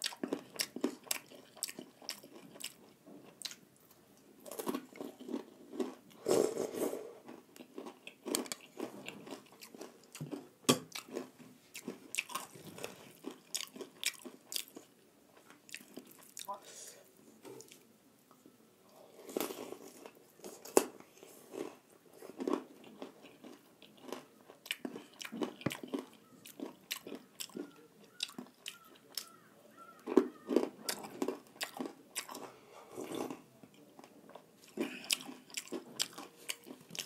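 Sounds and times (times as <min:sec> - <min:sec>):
crunching and chewing snack: 0:00.0 - 0:16.5, 0:18.9 - 0:37.0.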